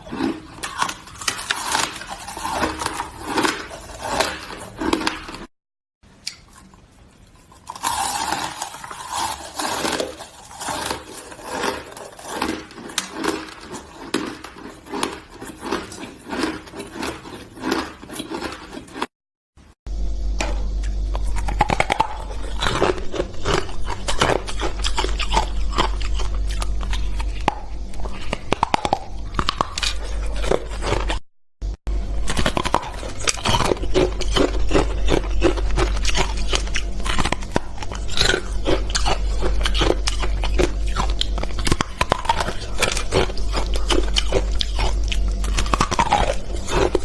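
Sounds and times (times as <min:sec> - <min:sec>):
chewing crunchy ice: 0:00.0 - 0:05.5, 0:06.3 - 0:19.1, 0:20.8 - 0:31.2, 0:32.1 - 0:47.0
steady low hum: 0:00.0 - 0:47.0.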